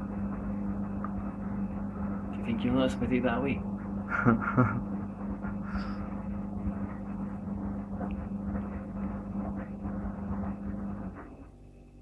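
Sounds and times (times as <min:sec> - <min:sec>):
laundry churning in drum: 0:00.0 - 0:12.0
washing machine motor humming: 0:00.0 - 0:12.0.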